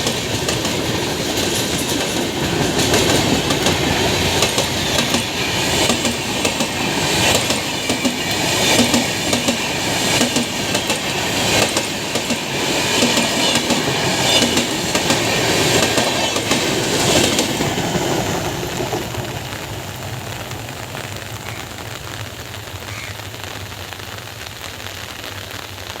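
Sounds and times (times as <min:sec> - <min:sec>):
train wheels clickety-clack: 0:00.0 - 0:21.8
heavy rain hiss: 0:00.0 - 0:26.0.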